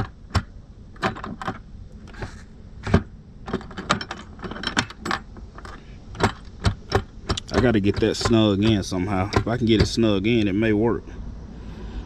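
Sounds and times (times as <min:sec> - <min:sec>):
lock clicking and knocking: 0:00.0 - 0:10.1.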